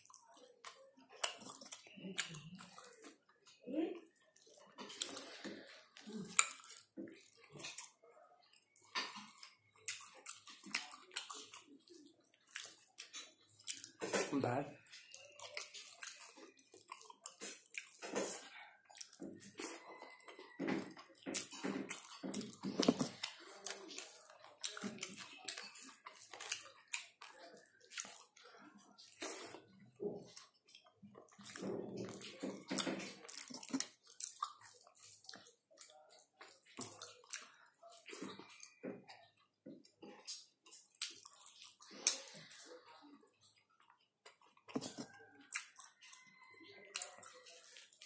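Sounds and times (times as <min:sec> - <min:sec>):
wet chewing and lip smacking: 0:00.0 - 0:48.0.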